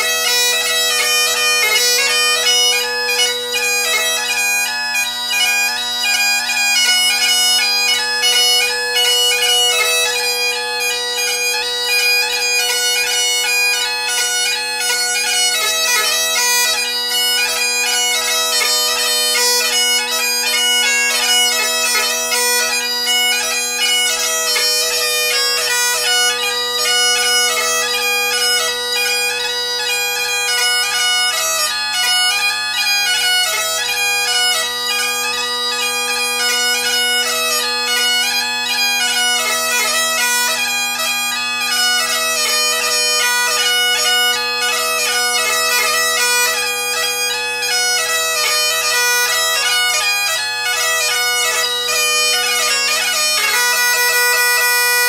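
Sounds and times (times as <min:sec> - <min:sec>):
bagpipe chanter melody: 0:00.0 - 0:55.0
bagpipe drone: 0:00.0 - 0:55.0.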